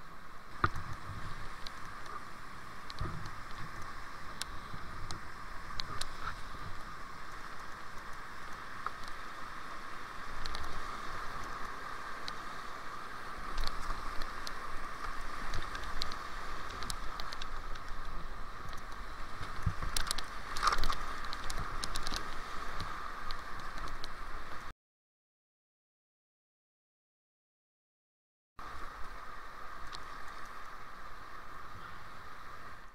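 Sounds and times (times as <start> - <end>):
rapids churning water: 0.0 - 24.7, 28.6 - 32.9.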